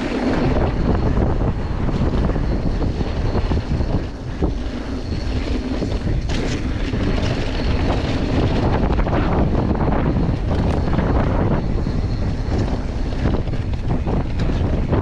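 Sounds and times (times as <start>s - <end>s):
mountain bike rattling on dirt trail: 0.0s - 15.0s
sharp clatter: 0.0s - 15.0s
wind rushing over microphone: 0.0s - 15.0s.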